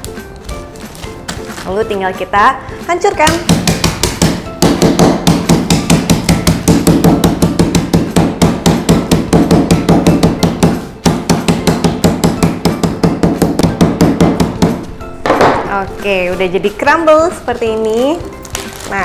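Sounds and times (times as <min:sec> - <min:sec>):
wooden spoon pounding bag: 0:00.0 - 0:19.0.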